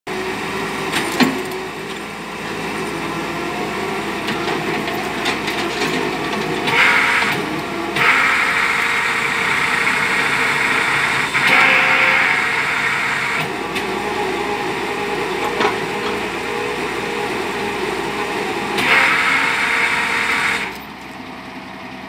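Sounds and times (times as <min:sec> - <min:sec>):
engine running steadily: 0:00.1 - 0:22.0.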